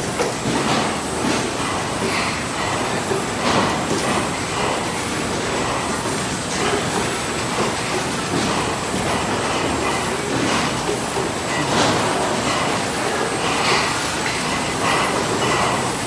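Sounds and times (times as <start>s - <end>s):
glass bottles clinking on conveyor: 0.0s - 16.0s.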